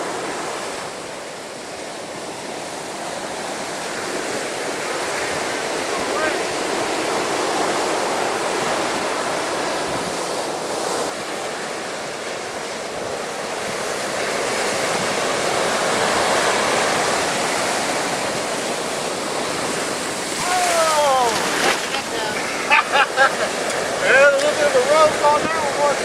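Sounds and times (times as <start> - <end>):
waves breaking against sea wall: 0.0 - 26.0.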